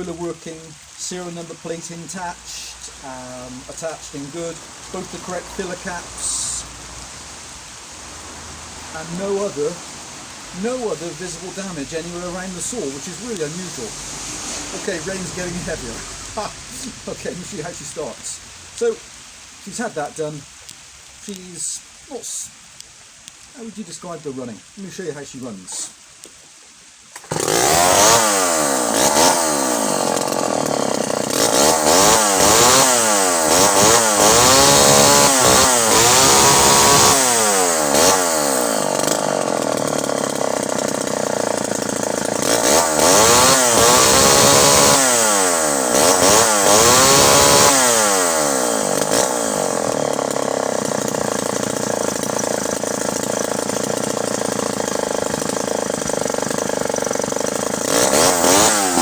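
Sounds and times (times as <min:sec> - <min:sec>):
chainsaw engine revving and idling: 0:00.0 - 0:19.0, 0:27.2 - 0:59.0.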